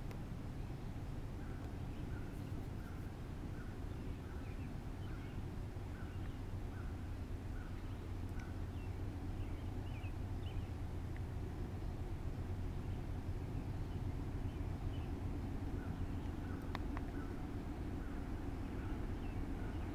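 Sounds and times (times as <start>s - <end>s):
steady low rumble: 0.0s - 19.9s
birds chirping: 1.4s - 10.8s, 12.7s - 19.9s.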